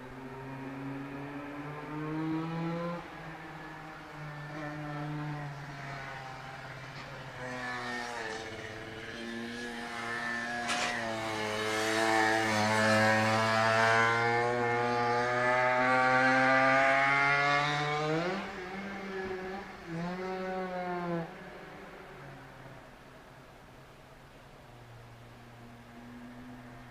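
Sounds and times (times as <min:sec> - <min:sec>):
two-stroke motorcycle engine racing: 0:00.0 - 0:21.6.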